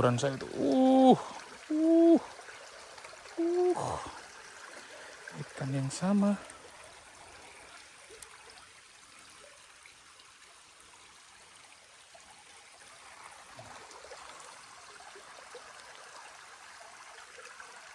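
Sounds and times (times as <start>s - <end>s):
stream water trickling: 0.0s - 17.9s.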